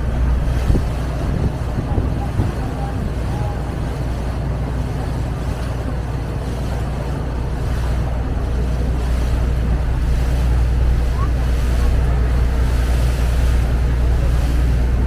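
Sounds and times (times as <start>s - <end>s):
boat engine low drone: 0.0s - 15.0s.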